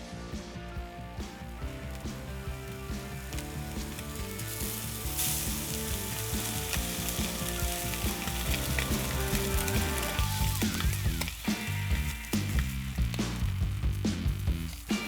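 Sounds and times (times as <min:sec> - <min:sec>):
background music: 0:00.0 - 0:15.0
steady sizzling hiss: 0:00.0 - 0:15.0.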